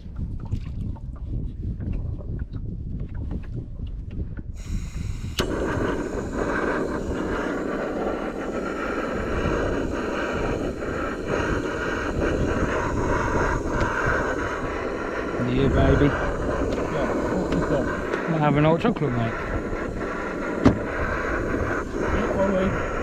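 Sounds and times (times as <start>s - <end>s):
gas burner roaring: 4.6s - 23.0s
gas hissing: 4.6s - 23.0s.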